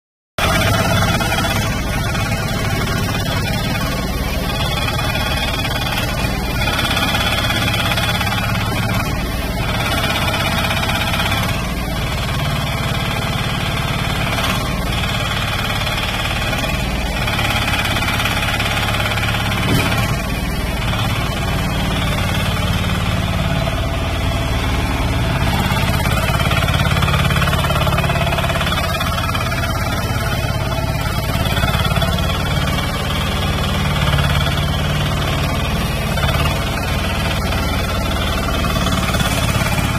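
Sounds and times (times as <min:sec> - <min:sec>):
tracked dumper engine running: 0:00.4 - 0:39.9.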